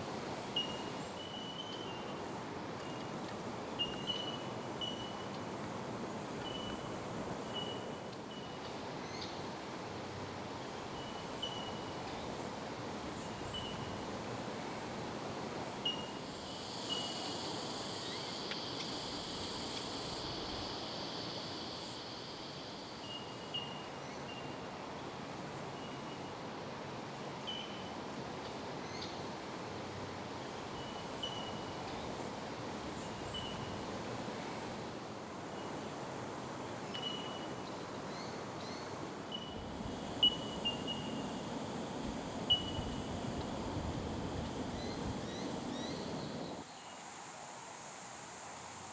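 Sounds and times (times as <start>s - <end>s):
higher steady hiss: 0.0s - 48.9s
steady background hiss: 0.0s - 48.9s.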